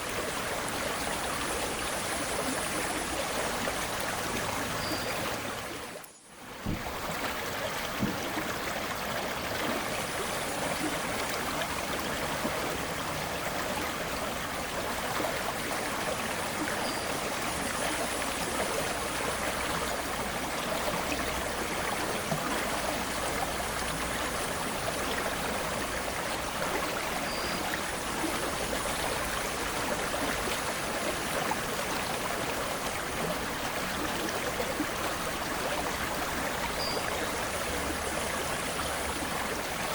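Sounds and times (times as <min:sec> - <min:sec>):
river water rushing and trickling: 0:00.0 - 0:39.9.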